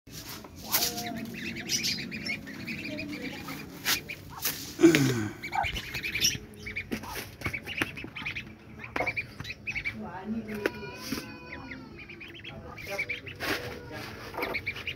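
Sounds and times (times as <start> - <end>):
ducklings peeping: 0.2 - 14.9.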